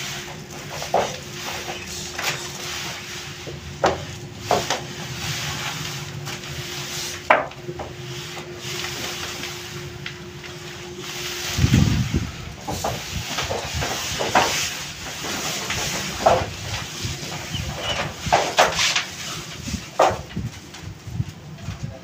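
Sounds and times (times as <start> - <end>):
hands rubbing and rustling sugar strands: 0.0 - 22.0
steady hiss: 0.0 - 22.0.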